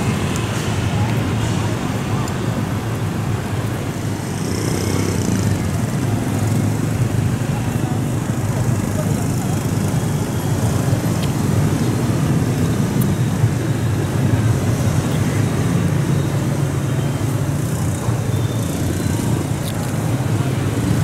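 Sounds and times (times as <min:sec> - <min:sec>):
motorbike engines running: 0:00.0 - 0:21.0.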